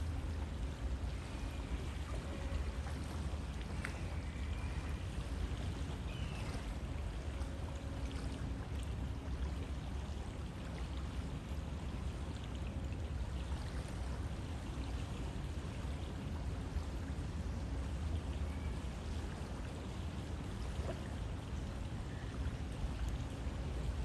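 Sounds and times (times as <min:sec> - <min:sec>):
river water flowing: 0:00.0 - 0:24.0.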